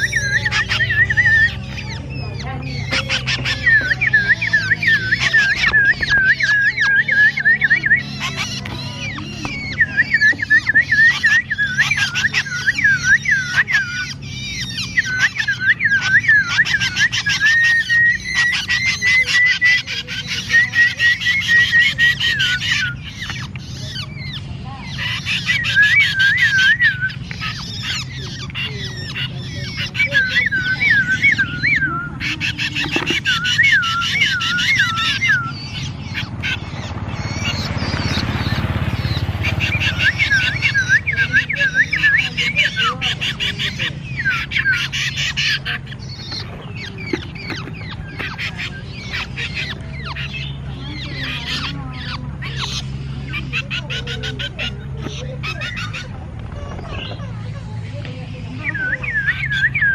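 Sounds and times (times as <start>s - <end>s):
birds rasping chirps: 0.0s - 59.9s.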